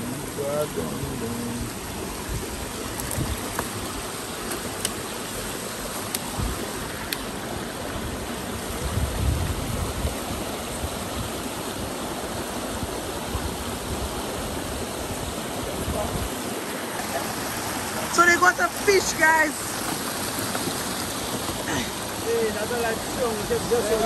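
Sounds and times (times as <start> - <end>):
river running over stones: 0.0 - 24.0.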